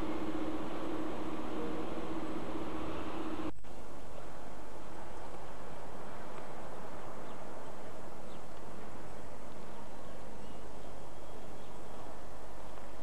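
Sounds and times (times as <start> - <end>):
diesel locomotive engine hum: 0.0 - 13.0.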